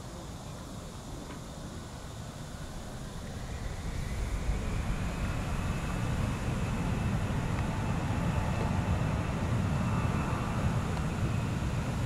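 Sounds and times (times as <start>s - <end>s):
faint high whine: 0.0s - 12.0s
jet engines rumbling: 0.0s - 12.0s.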